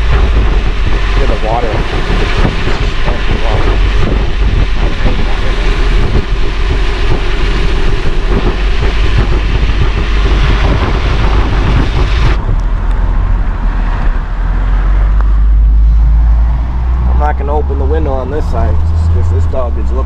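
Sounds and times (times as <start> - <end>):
car road noise rumble: 0.0 - 20.0
wind rushing hiss: 0.0 - 20.0.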